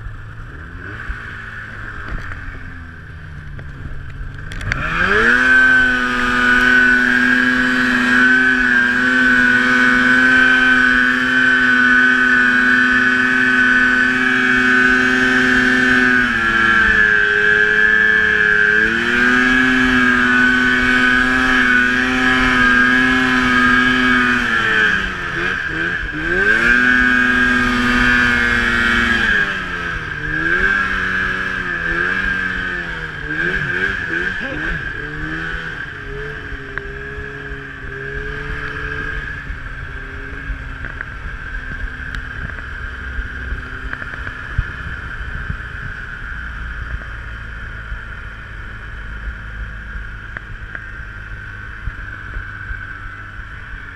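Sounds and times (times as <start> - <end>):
snowmobile engine revving: 0.0 - 53.9
wind: 0.0 - 53.9.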